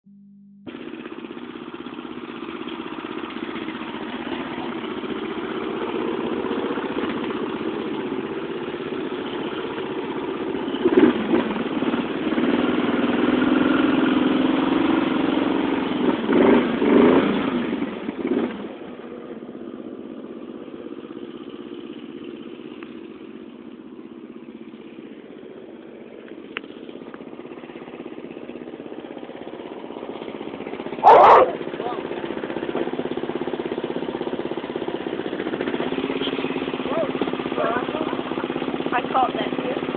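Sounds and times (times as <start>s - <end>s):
lawn mower engine revving: 0.6s - 39.9s.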